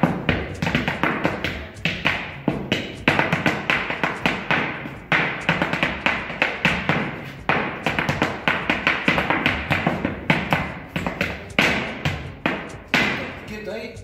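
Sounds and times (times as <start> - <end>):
boots stamping on dance board: 0.0 - 13.4.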